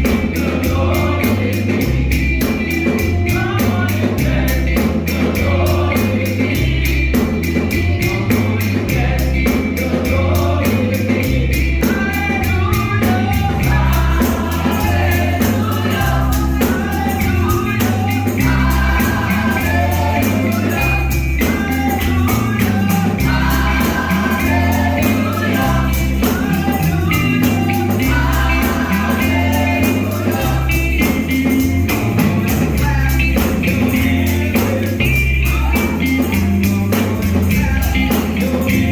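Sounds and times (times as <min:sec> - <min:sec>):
band with bass and beat: 0:00.0 - 0:38.9
choir singing gospel: 0:00.0 - 0:38.9.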